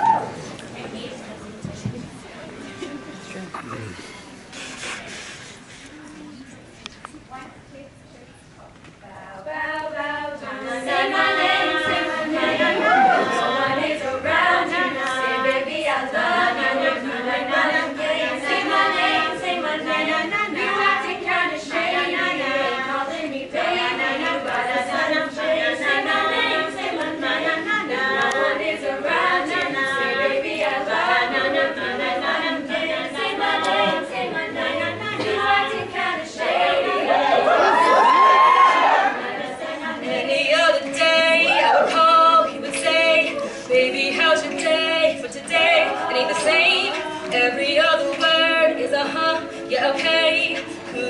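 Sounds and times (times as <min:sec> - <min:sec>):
female choir singing a cappella: 0:09.0 - 0:51.0.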